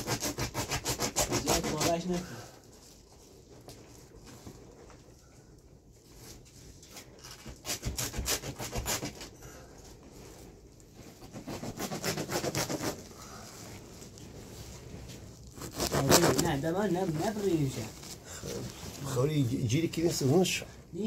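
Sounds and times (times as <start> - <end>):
scratching and rubbing on cloth: 0.0 - 5.2, 5.9 - 21.0.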